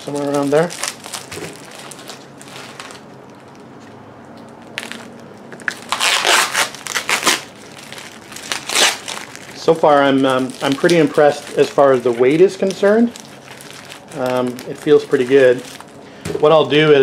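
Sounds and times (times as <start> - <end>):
plastic bag crinkling: 0.0 - 3.8, 4.4 - 17.0.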